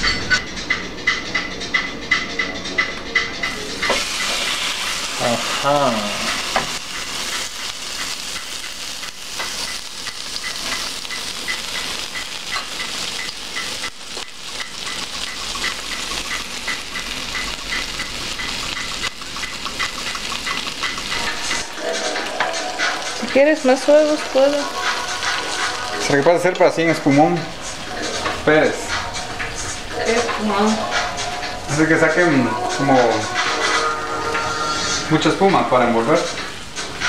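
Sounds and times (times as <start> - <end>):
oil sizzling in a frying pan: 3.4 - 37.0.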